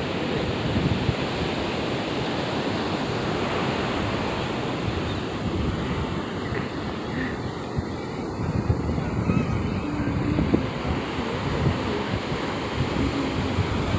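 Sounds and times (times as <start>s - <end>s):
surf breaking on beach: 0.0s - 13.9s
wind buffeting microphone: 0.0s - 13.9s.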